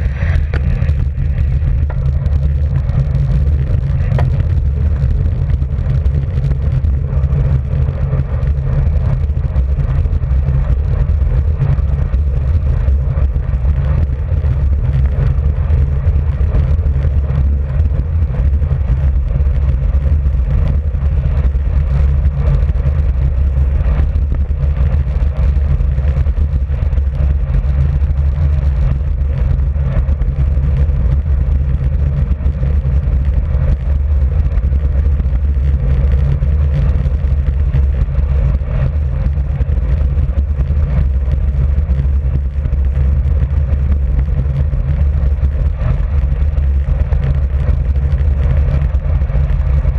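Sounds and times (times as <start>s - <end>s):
road noise: 0.0s - 49.9s
wind rumble on microphone: 0.0s - 49.9s.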